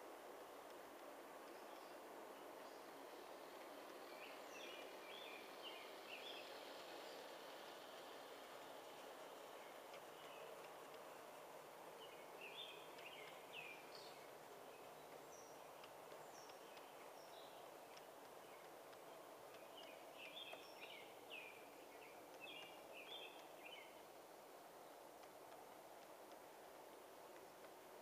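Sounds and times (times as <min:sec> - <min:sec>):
model train wheels rolling on track: 0:00.0 - 0:28.0
songbird chirping: 0:00.3 - 0:28.0.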